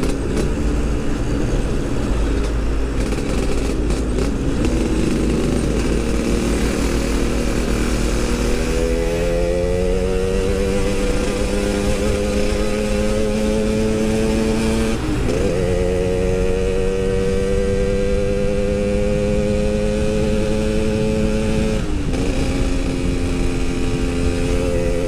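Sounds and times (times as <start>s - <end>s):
two-stroke engine running: 0.0s - 25.0s.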